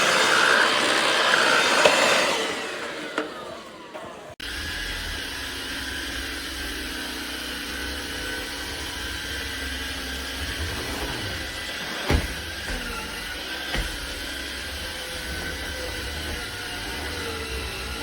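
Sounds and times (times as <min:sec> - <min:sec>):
stick vacuum whining: 0:00.0 - 0:18.0.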